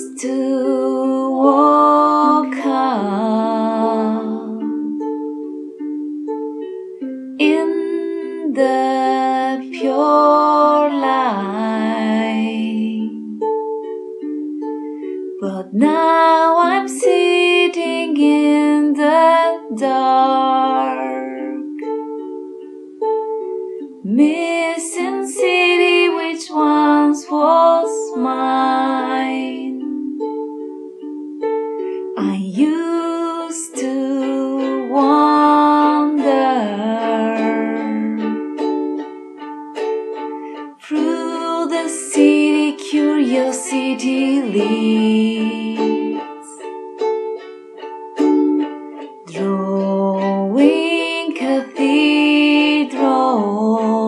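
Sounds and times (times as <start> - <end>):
person singing: 0.0 - 6.4, 7.0 - 14.3, 15.0 - 22.0, 23.8 - 30.8, 31.8 - 54.0
ukulele plucked and strummed: 0.0 - 54.0.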